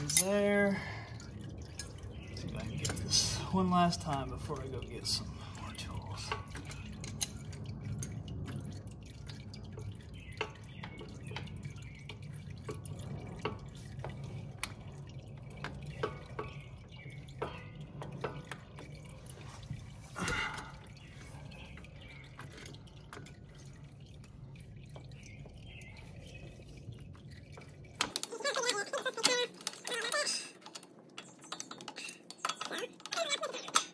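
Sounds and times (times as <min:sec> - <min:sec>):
oil dripping into bucket: 0:00.0 - 0:33.9.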